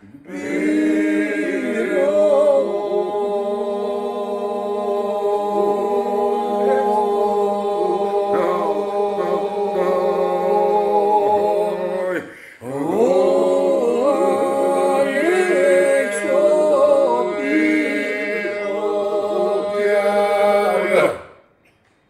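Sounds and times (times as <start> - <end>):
vocal drone: 0.0 - 21.2
polyphonic folk singing a cappella: 0.0 - 21.5.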